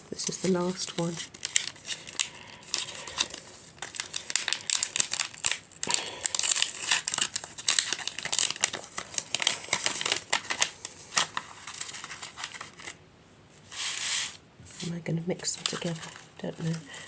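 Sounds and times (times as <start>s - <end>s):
packaging crinkling: 0.1s - 13.0s, 13.9s - 17.0s.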